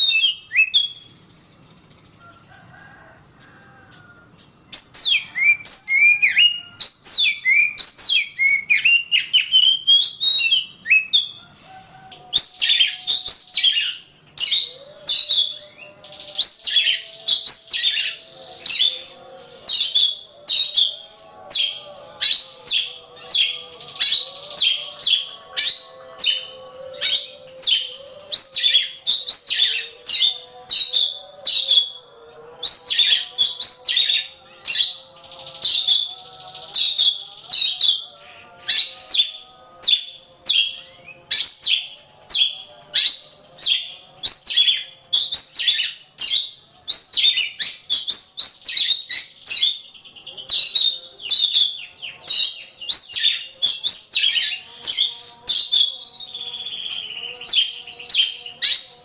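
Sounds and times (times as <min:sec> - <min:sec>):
bird singing whistled notes: 0:00.0 - 0:02.5, 0:04.7 - 0:59.0.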